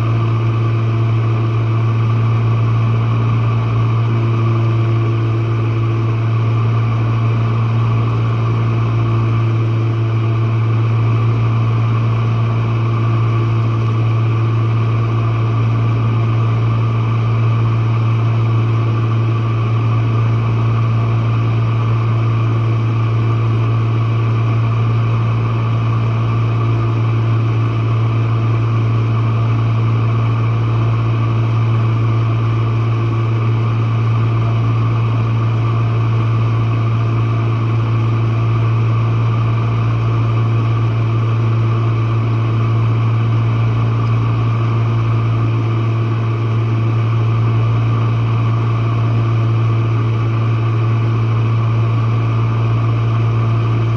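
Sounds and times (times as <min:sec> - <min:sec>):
dishwasher pump motor humming: 0:00.0 - 0:53.9.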